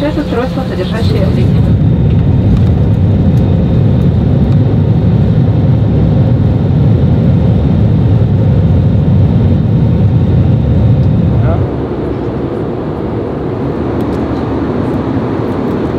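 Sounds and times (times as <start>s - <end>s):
jet engines rumbling in cabin: 0.0s - 15.9s.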